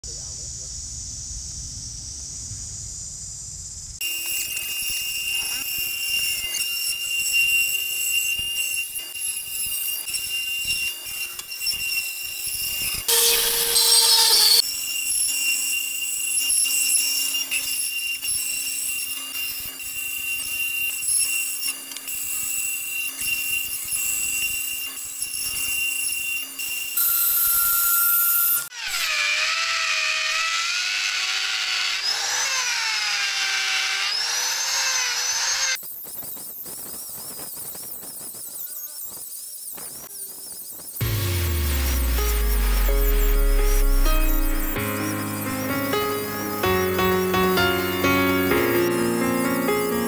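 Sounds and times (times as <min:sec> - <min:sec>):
power tool whine: 0:04.0 - 0:50.0
wood cutting and grinding: 0:04.0 - 0:50.0.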